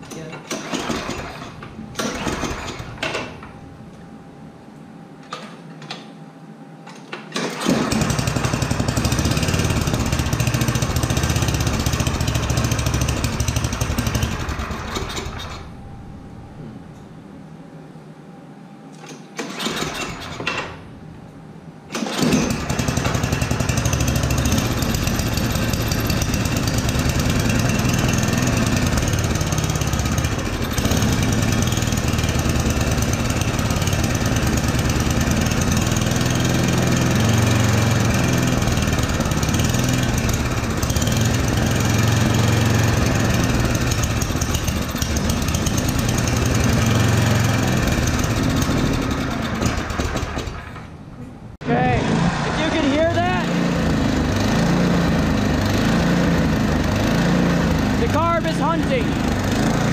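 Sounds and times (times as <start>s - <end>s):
snowblower engine hunting: 0.0s - 3.4s, 7.3s - 15.8s, 19.4s - 20.8s, 21.9s - 59.9s.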